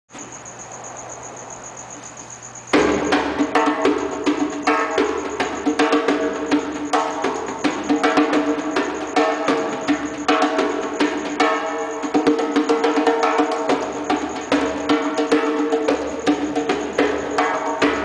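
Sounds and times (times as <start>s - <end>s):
djembe played by hand: 2.8s - 18.0s.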